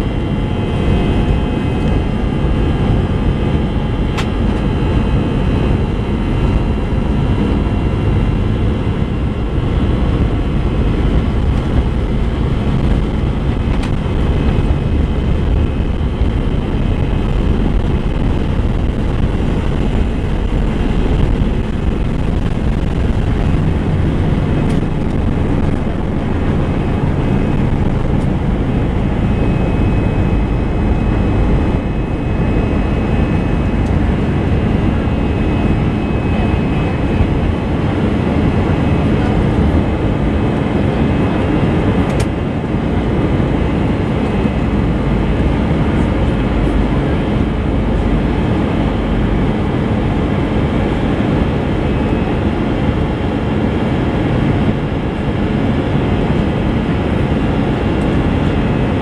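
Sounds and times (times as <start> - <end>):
jet engines rumbling at takeoff: 0.0 - 59.0.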